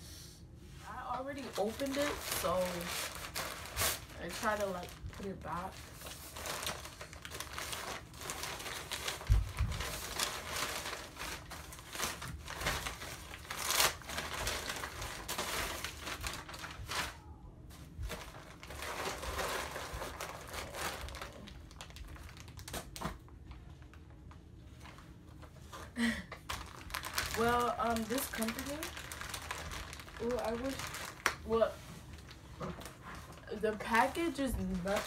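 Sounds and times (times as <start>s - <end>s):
plastic bag crinkling: 1.1s - 17.2s, 17.8s - 35.0s.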